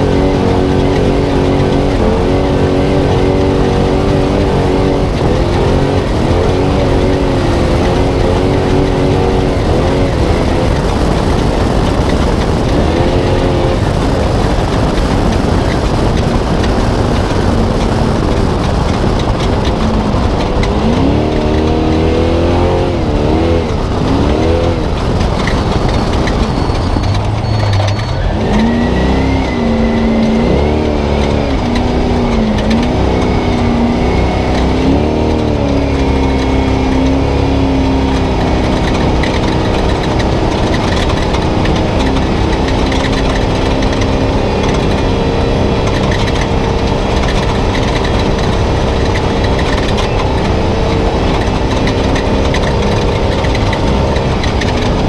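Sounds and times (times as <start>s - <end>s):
truck engine revving: 0.0s - 55.0s
truck running over rough terrain: 0.0s - 55.0s.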